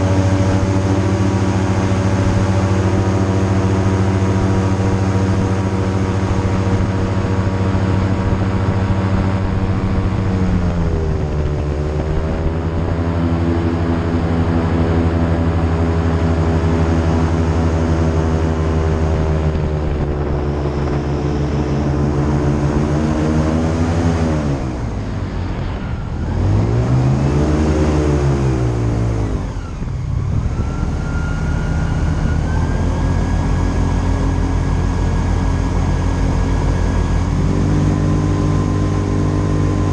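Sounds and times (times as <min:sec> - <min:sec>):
airboat engine and propeller: 0:00.0 - 0:39.9.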